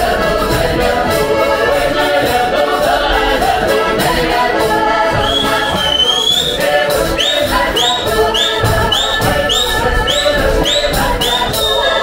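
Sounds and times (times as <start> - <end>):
accordion: 0.0 - 12.0
folk ensemble singing: 0.0 - 12.0.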